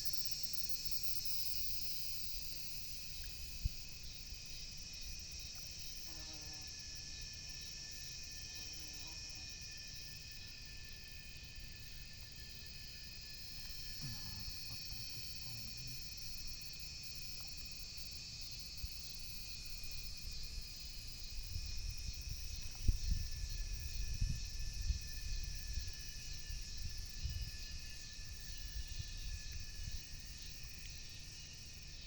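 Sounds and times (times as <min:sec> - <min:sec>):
insect chorus trilling: 0:00.0 - 0:32.0.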